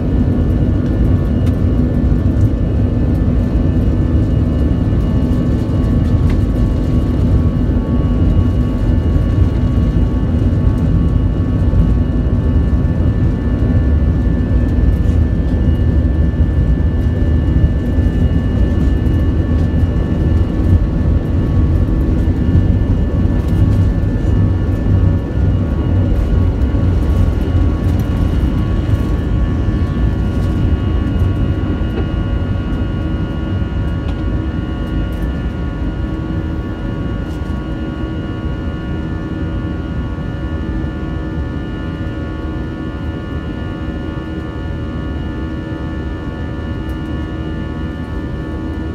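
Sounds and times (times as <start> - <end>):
jet engine rumble: 0.0 - 48.9
jet engine whining tones: 0.0 - 48.9.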